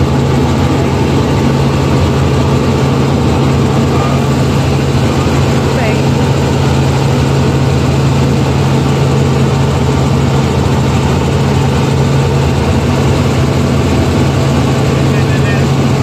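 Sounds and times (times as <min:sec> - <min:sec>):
helicopter engine and rotor drone: 0:00.0 - 0:16.0
wide rushing noise: 0:00.0 - 0:16.0.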